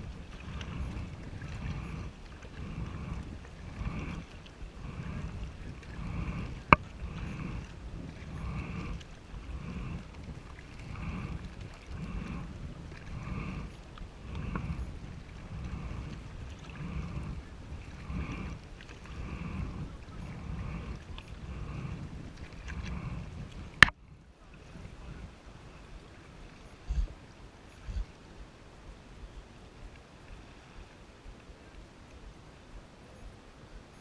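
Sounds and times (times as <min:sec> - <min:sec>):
kayak paddle strokes in water: 0:00.0 - 0:34.0.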